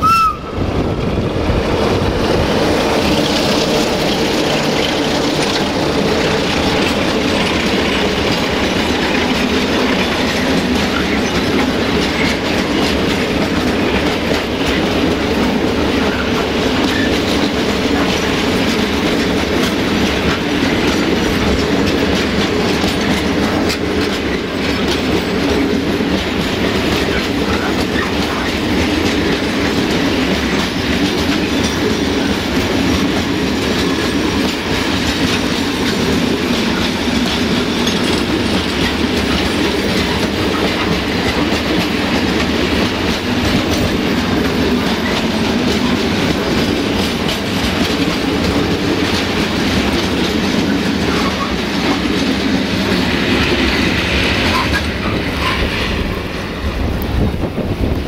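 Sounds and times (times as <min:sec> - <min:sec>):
freight train rumbling: 0:00.0 - 0:58.0
wheels clacking over rail joints: 0:00.7 - 0:58.0.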